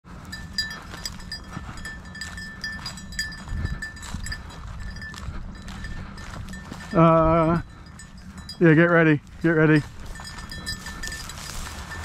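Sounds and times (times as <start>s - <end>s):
collar bell jingling: 0.1s - 12.0s
low steady rumble: 0.1s - 12.0s.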